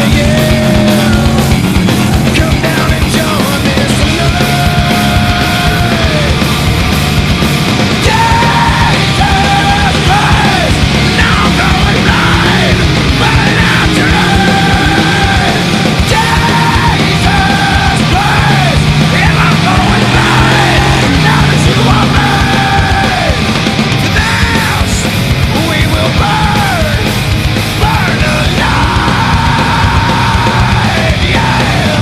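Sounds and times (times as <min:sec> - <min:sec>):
heavy rock music: 0:00.0 - 0:32.0
yelled vocals: 0:00.0 - 0:32.0.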